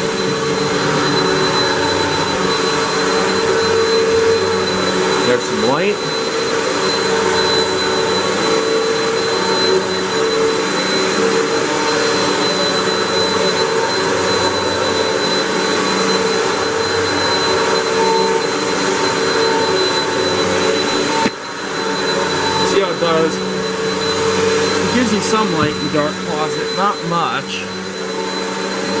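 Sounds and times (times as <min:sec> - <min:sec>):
upright vacuum running: 0:00.0 - 0:29.0.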